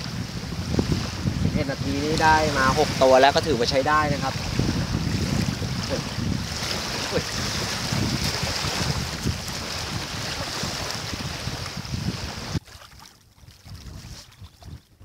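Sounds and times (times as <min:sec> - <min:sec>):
water lapping on stony shore: 0:00.0 - 0:15.0
wind buffeting microphone: 0:00.0 - 0:15.0.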